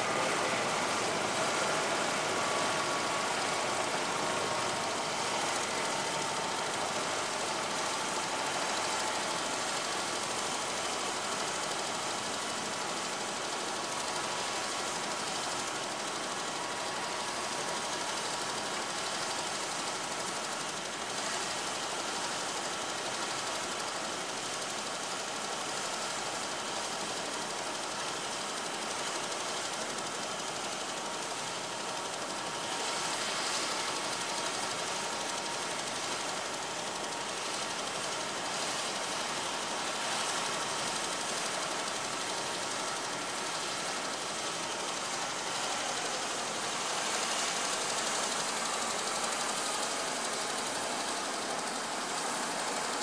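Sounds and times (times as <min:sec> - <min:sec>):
helicopter engine running: 0:00.0 - 0:24.2, 0:29.1 - 0:53.0.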